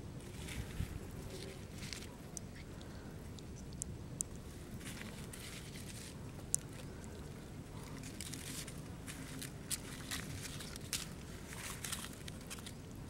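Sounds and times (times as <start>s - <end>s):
leaves rustling in hands: 0.0s - 13.0s
outdoor background noise: 0.0s - 13.0s.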